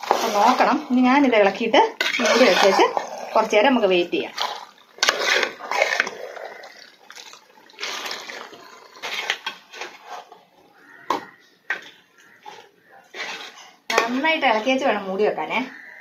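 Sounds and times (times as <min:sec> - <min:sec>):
spoon scraping a steel pot: 0:00.0 - 0:10.4, 0:11.0 - 0:15.0.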